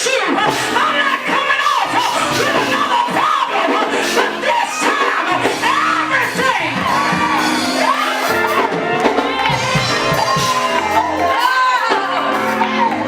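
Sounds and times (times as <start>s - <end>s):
congregation shouting and singing: 0.0s - 13.0s
loud live music: 0.0s - 13.0s.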